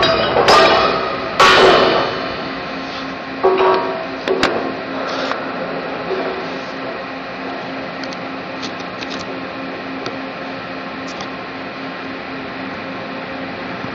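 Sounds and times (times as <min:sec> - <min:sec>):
throbbing machinery hum: 0:00.0 - 0:13.9.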